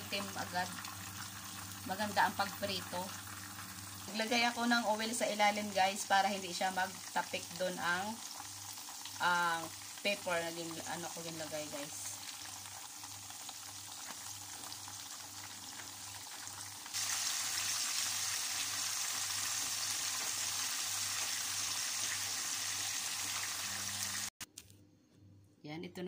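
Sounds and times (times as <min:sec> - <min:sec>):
fish sizzling in oil: 0:00.0 - 0:24.4.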